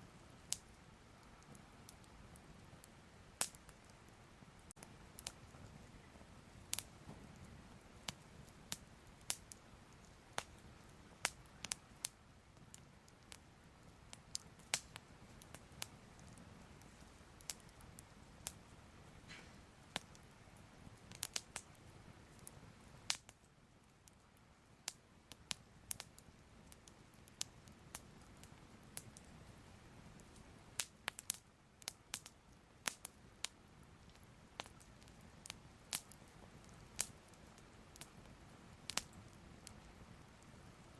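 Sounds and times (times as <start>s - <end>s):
fire crackling softly: 0.0s - 40.9s.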